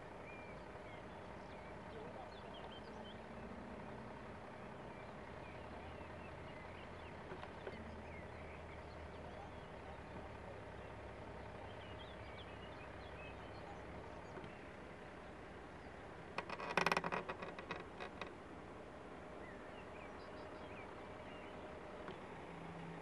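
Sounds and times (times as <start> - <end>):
birds chirping: 0.0 - 23.0
low steady hum: 0.0 - 23.0.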